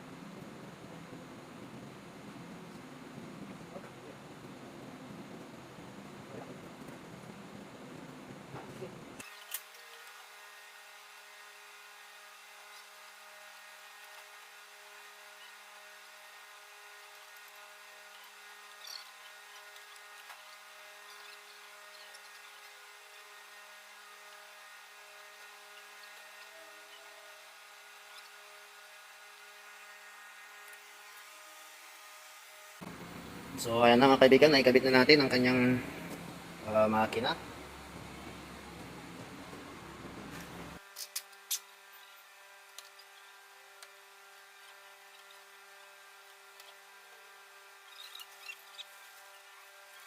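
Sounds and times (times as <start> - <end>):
faint mechanical hum: 0.0 - 50.0.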